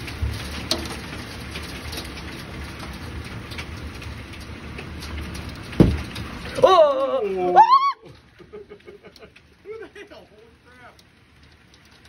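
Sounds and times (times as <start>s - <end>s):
heavy rain on wooden deck: 0.0s - 12.0s
low rumble of storm wind: 0.0s - 12.0s.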